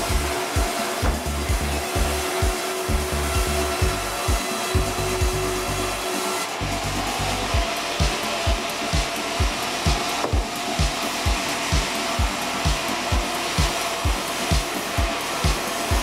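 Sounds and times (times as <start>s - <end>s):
low repeating thumps: 0.0s - 6.0s, 6.6s - 16.0s.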